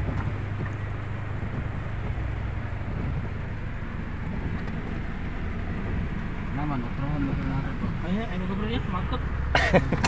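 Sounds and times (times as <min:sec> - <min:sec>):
car engine hum: 0:00.0 - 0:10.0
tyres rushing on wet road: 0:00.0 - 0:10.0.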